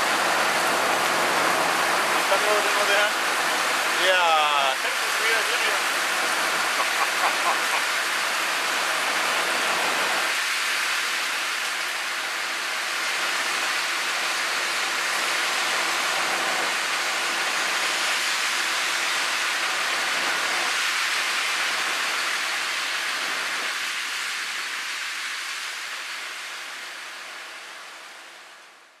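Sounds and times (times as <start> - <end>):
heavy rain and hail falling: 0.0 - 28.6.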